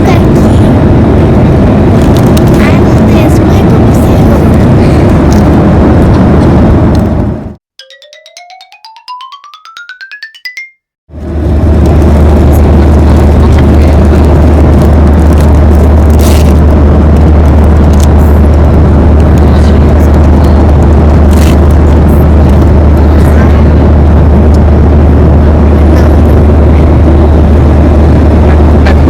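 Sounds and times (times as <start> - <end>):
jet airliner cabin rumble: 0.0 - 7.5, 11.2 - 29.0.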